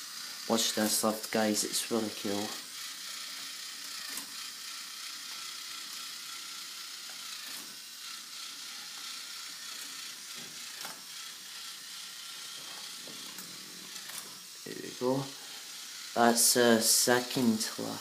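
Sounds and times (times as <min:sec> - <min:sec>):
toy ball lift motor whirring: 0:00.0 - 0:18.0.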